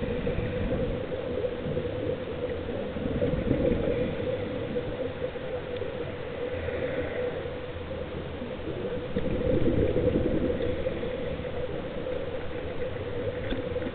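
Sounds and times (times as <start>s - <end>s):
constant hum: 0.0s - 13.9s
muffled underwater rumble: 0.0s - 13.9s.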